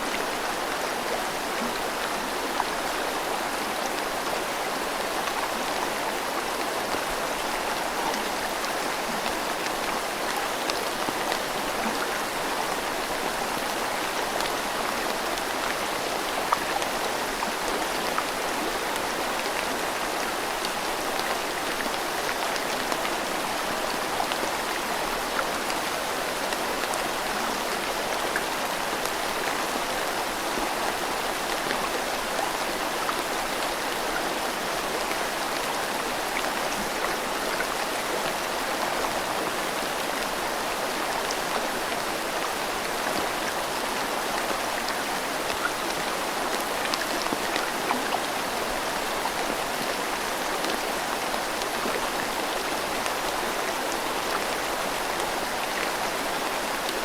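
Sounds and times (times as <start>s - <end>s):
rushing river: 0.0s - 57.0s
steady rain: 0.0s - 57.0s.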